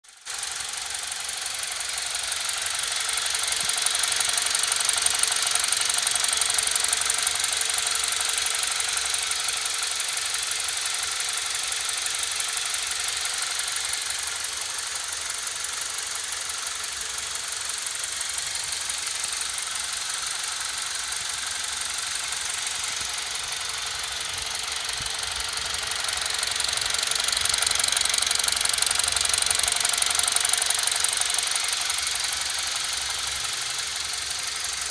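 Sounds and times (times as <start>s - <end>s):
rapid steady ticking: 0.0s - 34.9s
car engine idling: 0.1s - 34.9s.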